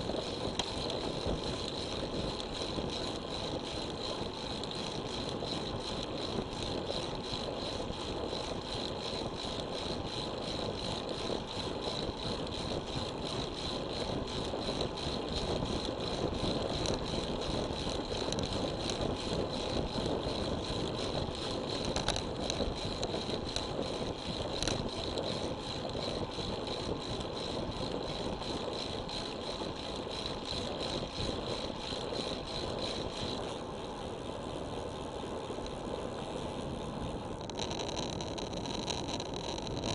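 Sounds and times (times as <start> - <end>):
wind and tyre noise: 0.0 - 39.9
sharp ticks: 0.1 - 33.5, 37.4 - 39.9.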